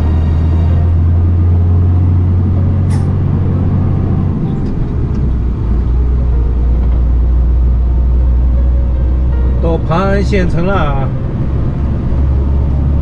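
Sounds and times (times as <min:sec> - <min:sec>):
truck diesel engine hum: 0:00.0 - 0:13.0.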